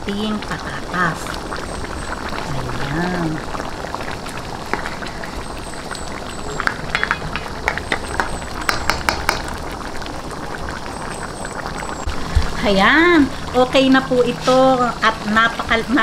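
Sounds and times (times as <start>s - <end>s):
thick sauce bubbling in a pan: 0.0s - 16.0s.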